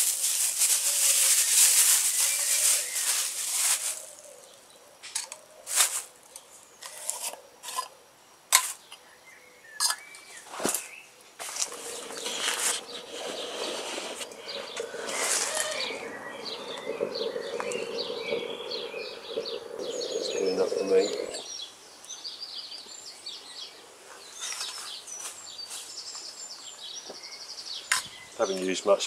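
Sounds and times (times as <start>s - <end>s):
birds chirping: 0.0s - 7.9s, 8.7s - 29.0s.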